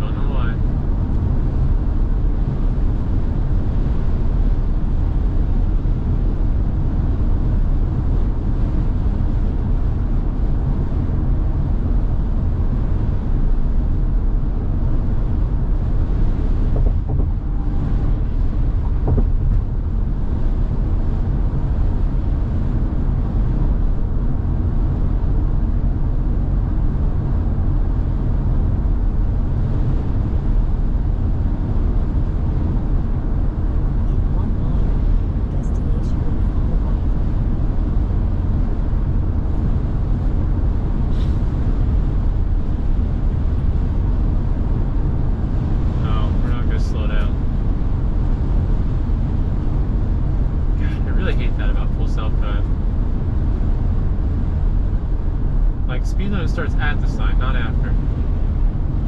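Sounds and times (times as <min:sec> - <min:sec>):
road and wind noise inside car: 0:00.0 - 0:59.0.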